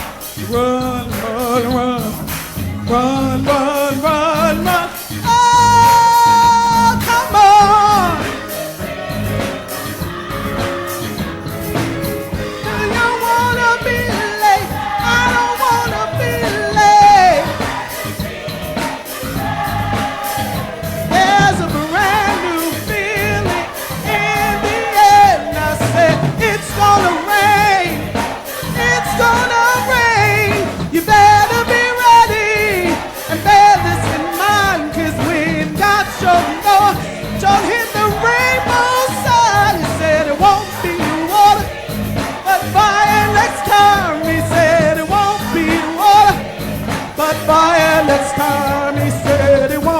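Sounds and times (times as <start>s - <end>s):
musical accompaniment: 0.0s - 49.9s
voices singing with vibrato: 0.0s - 49.9s.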